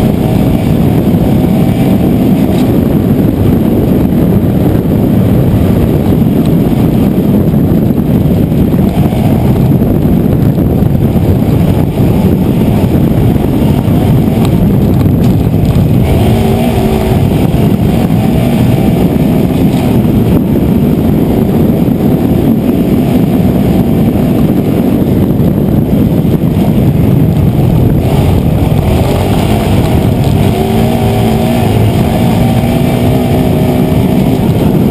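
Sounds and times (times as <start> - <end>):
quad engine revving: 0.0 - 34.9.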